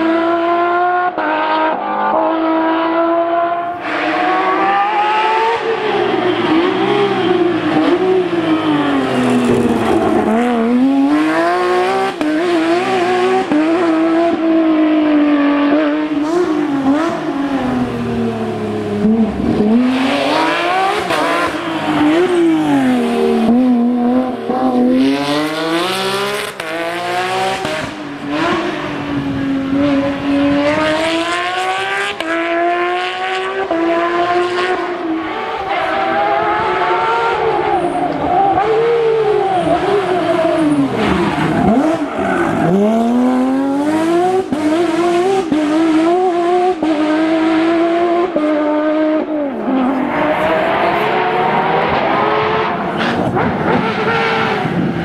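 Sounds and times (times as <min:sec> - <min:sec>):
car engine revving hard: 0:00.0 - 0:55.0.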